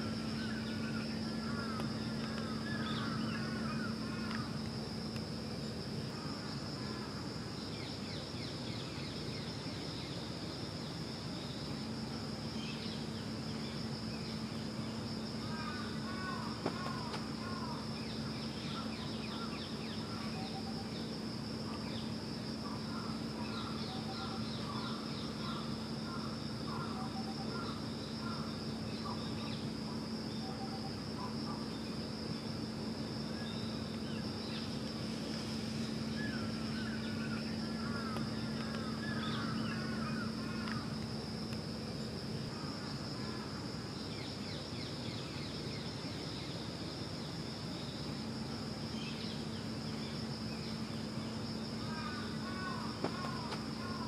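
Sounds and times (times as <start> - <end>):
high-pitched insect drone: 0.0 - 54.0
low steady hum: 0.0 - 54.0.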